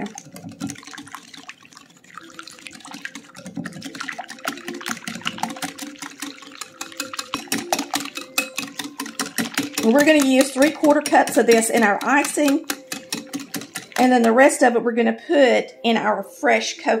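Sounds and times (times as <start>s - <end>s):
whisk beating in glass bowl: 0.0s - 14.7s.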